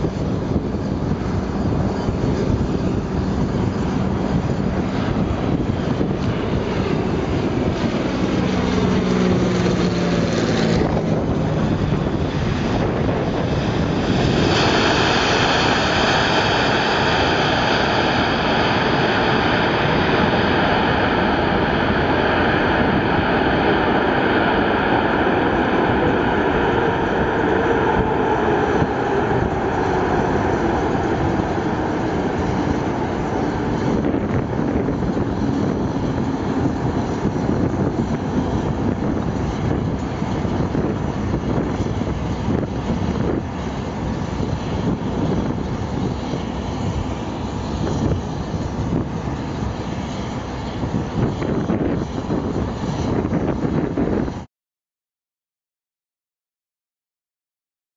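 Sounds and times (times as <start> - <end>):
high jet fan whine: 0.0 - 54.5
jet engines rumbling: 0.0 - 54.5.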